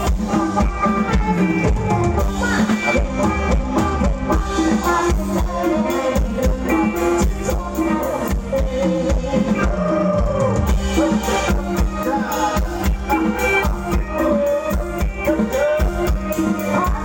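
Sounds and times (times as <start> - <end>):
drum-kit beat: 0.0 - 17.0
live band music: 0.0 - 17.0.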